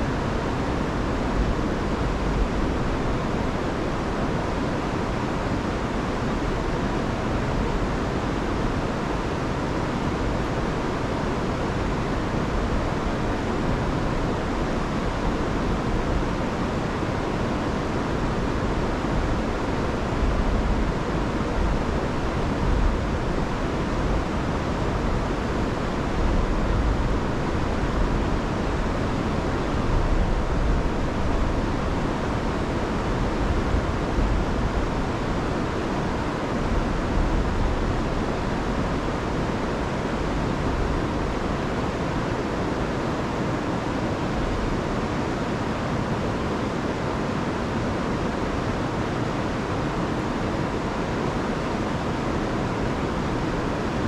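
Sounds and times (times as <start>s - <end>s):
river rushing over falls: 0.0s - 54.0s.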